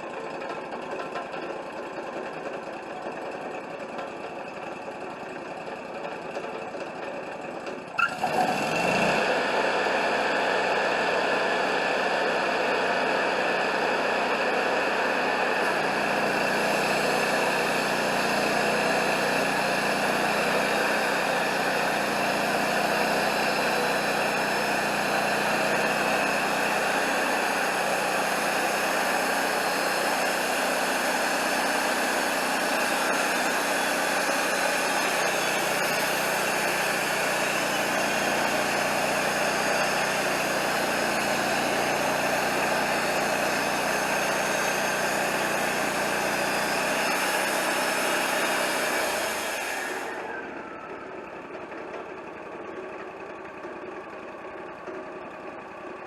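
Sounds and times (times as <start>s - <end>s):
band sawmill engine running: 0.0s - 56.0s.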